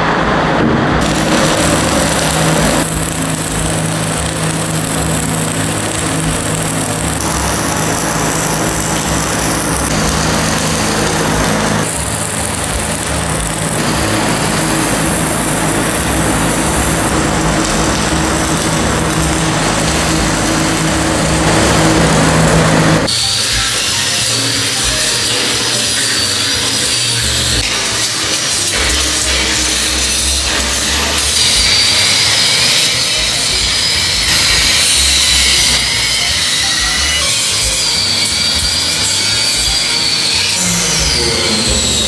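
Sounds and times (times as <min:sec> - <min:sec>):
welding arc sizzling: 0:00.0 - 0:42.0.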